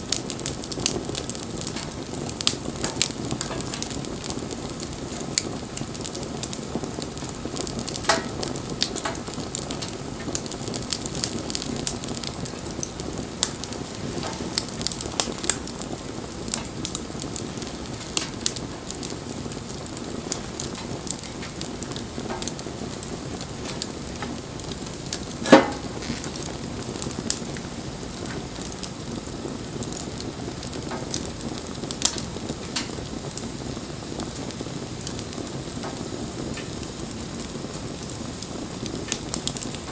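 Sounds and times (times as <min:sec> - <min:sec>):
bonfire hissing and crackling: 0:00.0 - 0:39.9.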